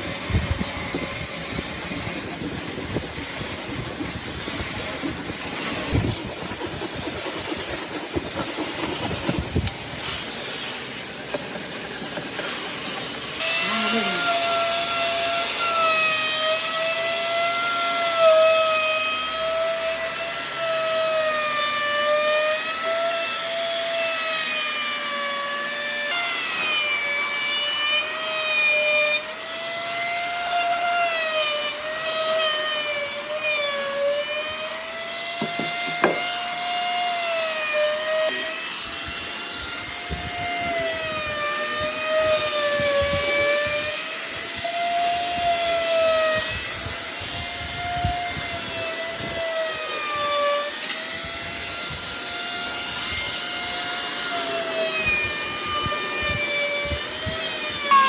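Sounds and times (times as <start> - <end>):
power tool motor whine: 0.0 - 58.0
wood grinding rasp: 0.0 - 58.0.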